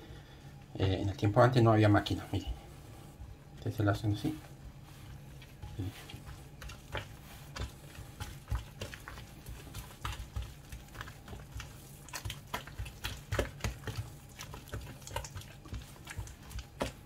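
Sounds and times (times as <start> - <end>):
hand mixing thick batter: 0.0 - 17.0.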